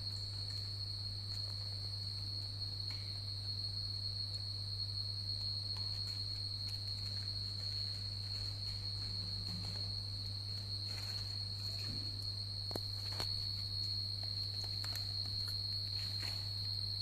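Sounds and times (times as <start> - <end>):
high-pitched whine: 0.0 - 17.0
low hum: 0.0 - 17.0.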